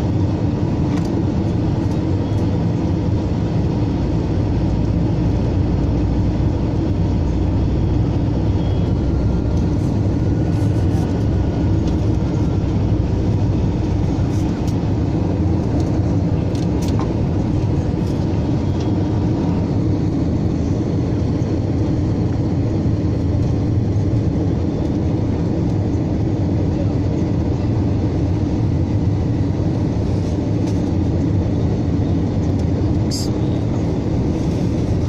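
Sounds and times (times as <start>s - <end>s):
jet engine cabin rumble: 0.0s - 35.0s.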